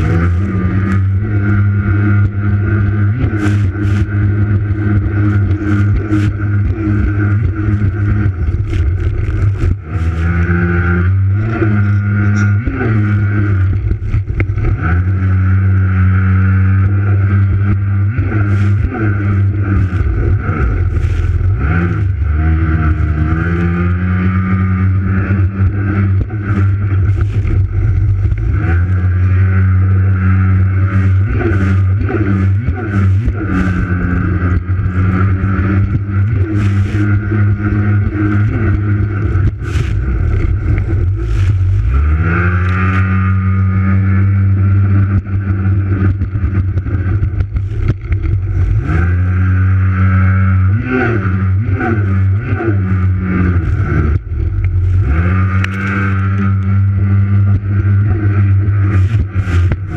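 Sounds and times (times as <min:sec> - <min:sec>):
jet ski engine revving: 0:00.0 - 0:59.9.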